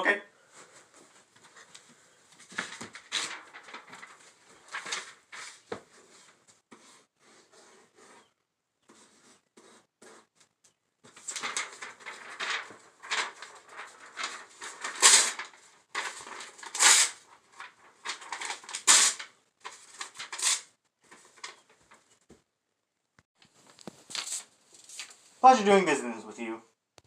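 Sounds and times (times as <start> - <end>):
paper rustling and crinkling: 0.5 - 8.3, 8.9 - 22.2, 23.4 - 25.3.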